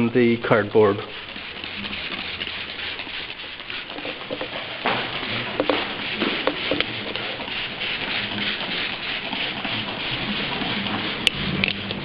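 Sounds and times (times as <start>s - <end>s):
steady hiss: 0.0s - 12.0s
spray bottle squirts: 1.0s - 12.0s.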